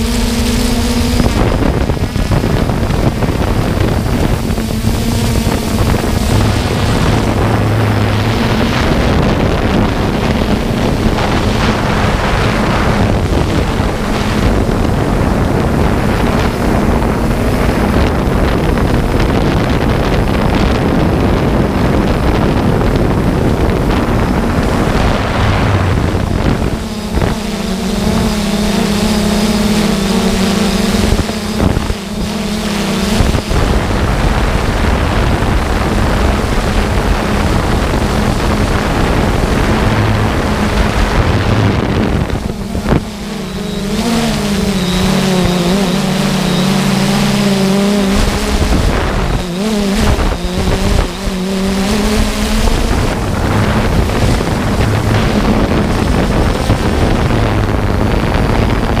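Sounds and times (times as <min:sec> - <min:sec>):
drone propellers humming: 0:00.0 - 0:59.0
wind noise on microphone: 0:00.0 - 0:59.0.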